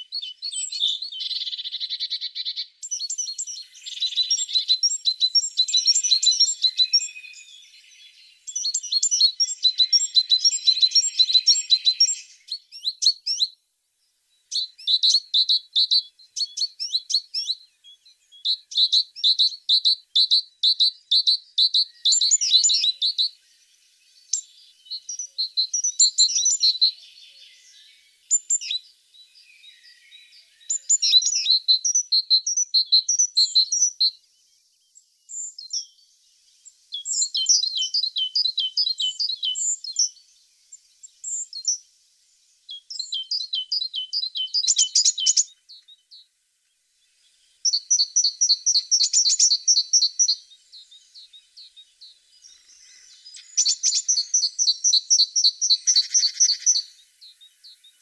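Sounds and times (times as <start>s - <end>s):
soft bird twittering: 0.0s - 58.0s.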